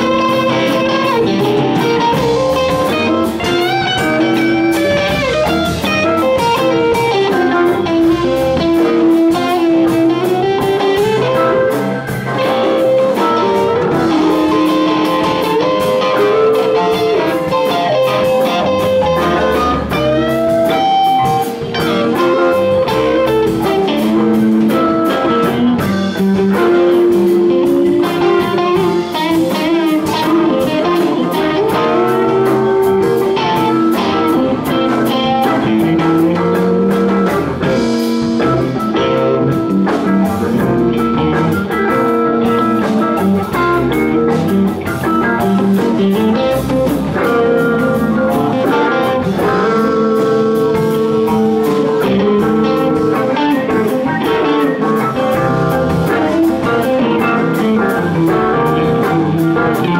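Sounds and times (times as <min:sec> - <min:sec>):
bass: 0:00.0 - 0:59.9
drum kit: 0:00.0 - 0:59.9
electric guitars: 0:00.0 - 0:59.9
electric keyboard: 0:00.0 - 0:59.9.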